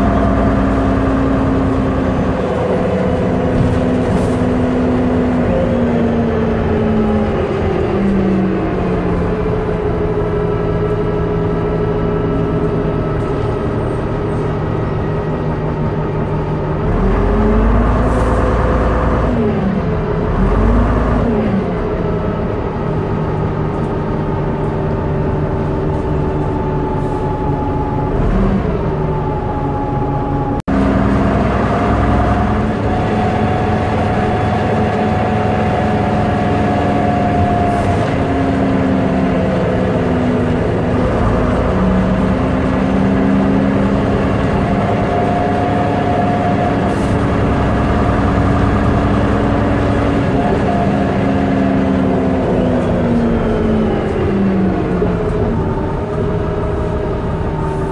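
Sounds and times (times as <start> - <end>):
bus engine with driveline whine: 0.0 - 57.9.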